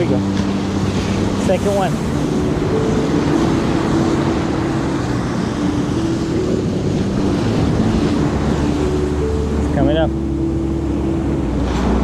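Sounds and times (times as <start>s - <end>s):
ocean surf washing: 0.0s - 12.0s
wind on microphone: 0.0s - 12.0s.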